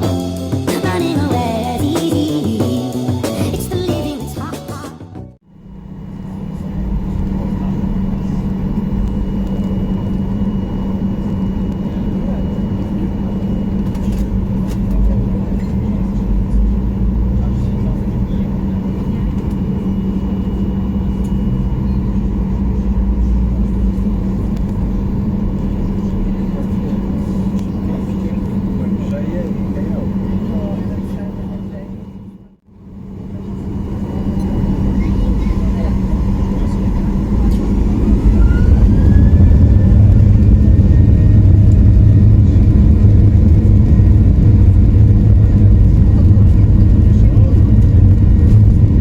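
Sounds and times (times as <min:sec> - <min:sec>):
airplane cabin drone: 0:00.0 - 0:49.0
faint rising whine: 0:05.4 - 0:49.0.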